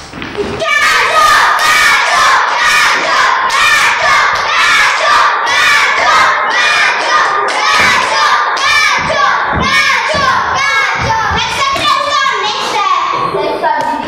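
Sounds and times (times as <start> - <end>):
girls shouting and cheering: 0.6 - 14.0.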